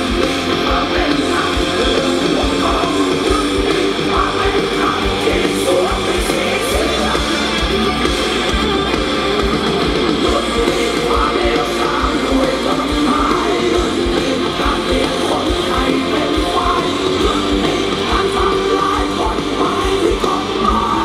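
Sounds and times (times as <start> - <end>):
electric guitars: 0.0 - 21.0
live rock band: 0.0 - 21.0.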